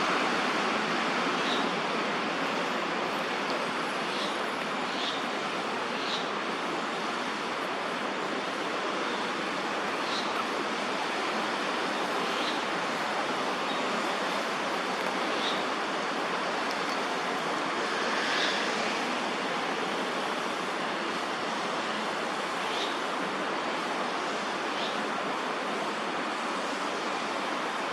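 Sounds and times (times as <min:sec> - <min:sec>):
rushing outdoor background noise: 0:00.0 - 0:27.9.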